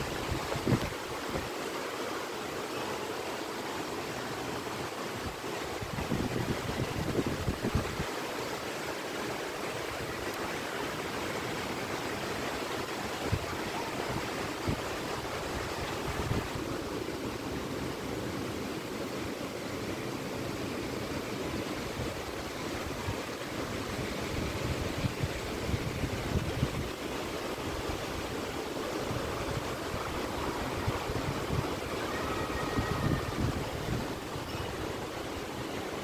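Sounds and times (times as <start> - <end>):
rain falling: 0.0 - 36.0.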